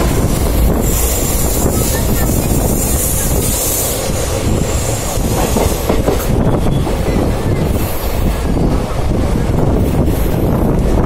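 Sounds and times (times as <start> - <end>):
train wheels rumbling and clacking: 0.0 - 11.0.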